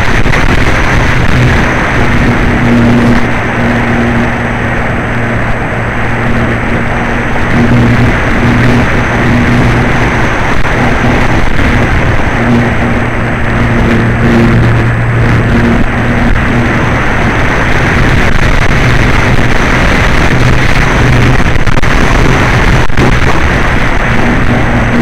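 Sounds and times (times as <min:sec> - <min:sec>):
motor and propeller hum: 0:00.0 - 0:25.0
wind rushing across microphone: 0:00.0 - 0:25.0.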